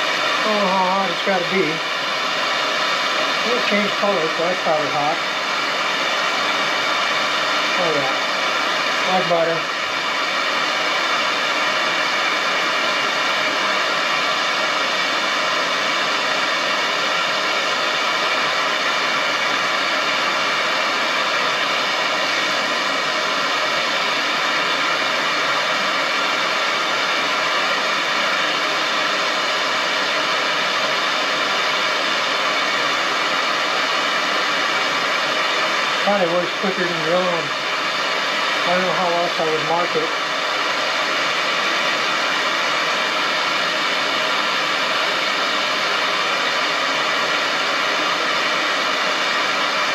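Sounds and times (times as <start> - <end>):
propane torch hissing: 0.0 - 49.9.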